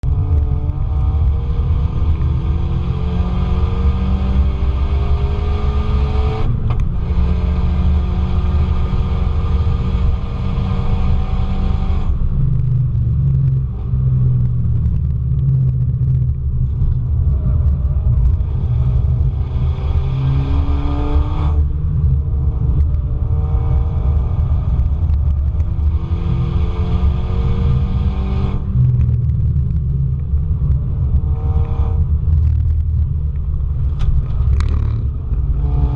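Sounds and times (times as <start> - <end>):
car engine accelerating hard: 0.0 - 35.9
road and tyre noise: 0.0 - 35.9.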